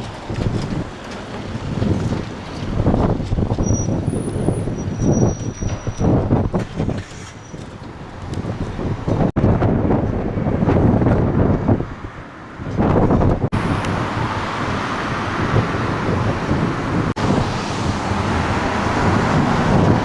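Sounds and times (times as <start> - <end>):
passing road traffic: 0.0 - 20.0
wind buffeting microphone: 0.0 - 20.0.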